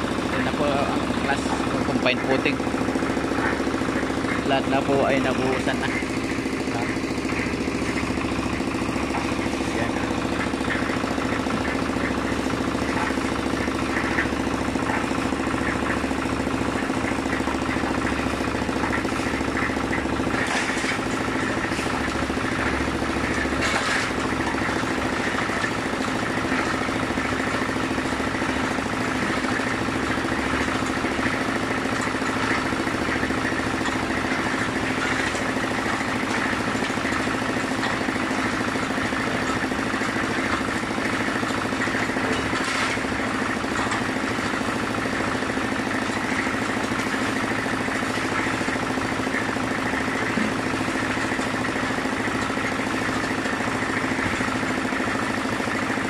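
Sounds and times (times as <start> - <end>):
concrete mixer engine running: 0.0 - 56.0.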